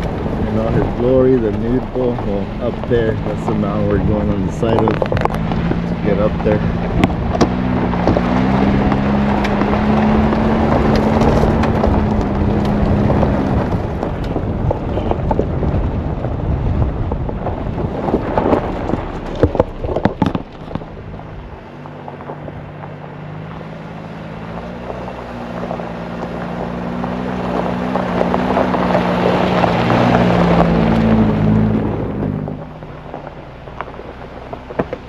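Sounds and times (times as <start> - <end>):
truck engine running: 0.0 - 35.0
wind buffeting microphone: 0.0 - 35.0.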